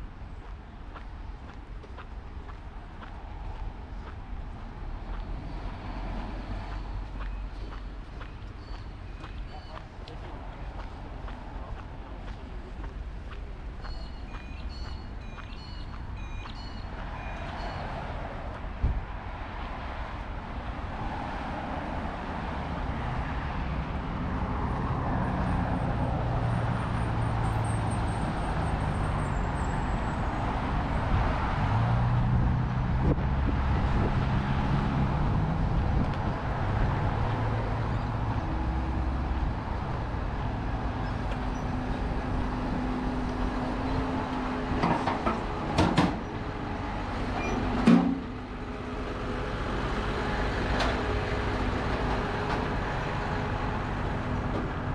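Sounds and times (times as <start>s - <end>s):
passing vehicles: 0.0s - 54.9s.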